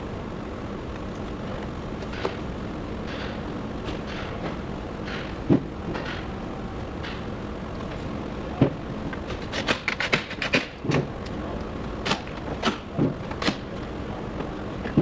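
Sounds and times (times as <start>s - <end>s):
workshop hiss: 0.0s - 15.0s.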